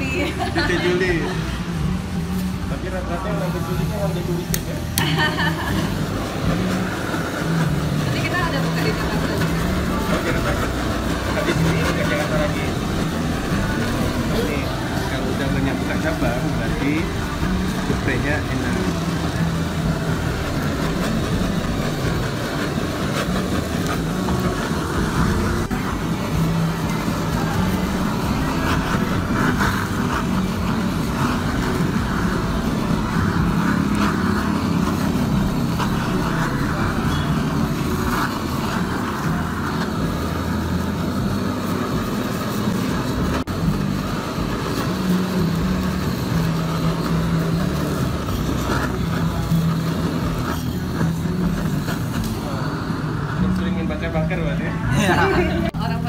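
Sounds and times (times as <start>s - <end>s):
gas torch flame roaring: 0.0s - 56.0s
passing road traffic: 0.0s - 56.0s.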